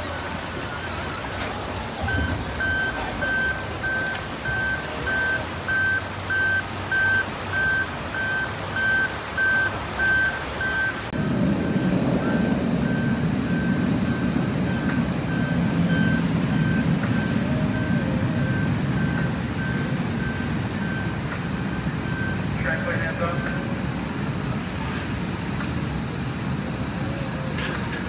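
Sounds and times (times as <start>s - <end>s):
machine engine rumble: 0.0s - 28.0s
backup alarm beeping: 0.7s - 23.7s.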